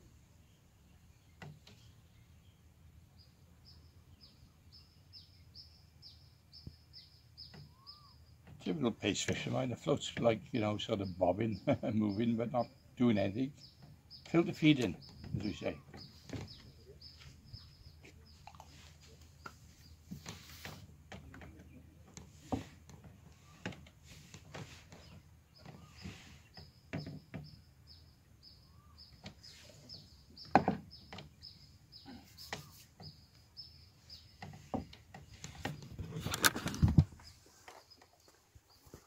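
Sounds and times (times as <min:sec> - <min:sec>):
outdoor background noise: 0:00.0 - 0:39.0
small bird chirping: 0:00.4 - 0:08.6, 0:11.0 - 0:20.8, 0:24.6 - 0:39.0.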